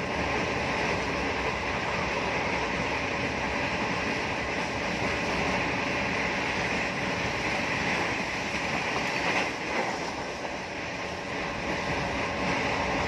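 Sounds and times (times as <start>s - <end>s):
train running at speed: 0.0s - 13.0s.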